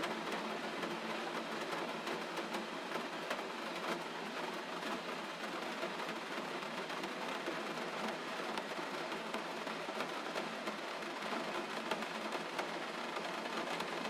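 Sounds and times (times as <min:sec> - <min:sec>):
gentle rain falling: 0:00.0 - 0:14.0.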